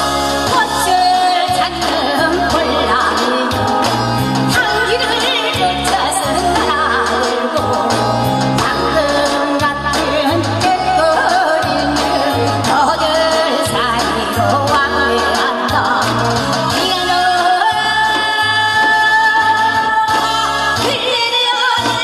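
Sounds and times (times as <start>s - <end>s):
backing track with bass beat: 0.0s - 22.0s
woman singing into microphone: 0.0s - 22.0s.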